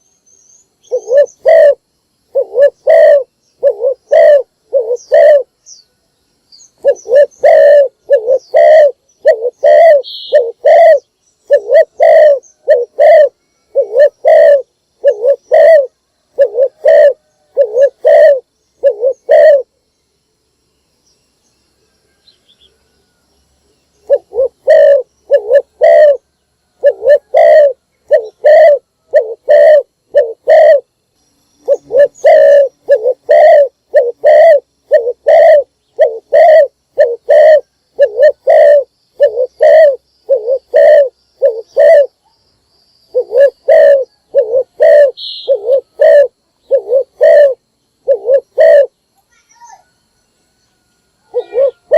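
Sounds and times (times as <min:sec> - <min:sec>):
dove cooing: 0:00.8 - 0:05.5, 0:06.8 - 0:19.8, 0:24.0 - 0:30.9, 0:31.6 - 0:42.2, 0:43.1 - 0:49.0, 0:51.2 - 0:51.9.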